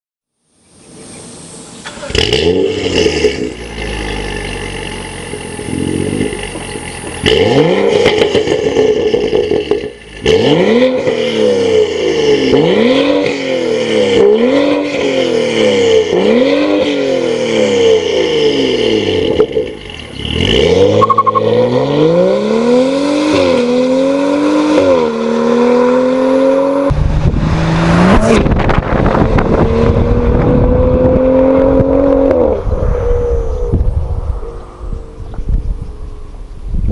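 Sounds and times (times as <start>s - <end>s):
car engine revving: 1.8s - 36.3s.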